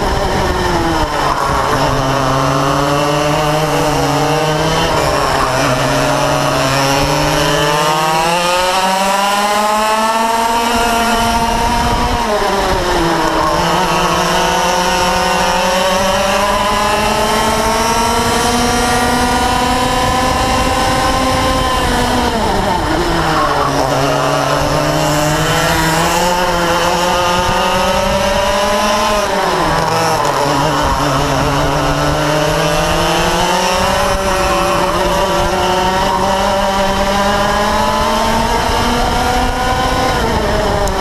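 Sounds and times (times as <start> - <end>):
kart engine revving: 0.0 - 41.0.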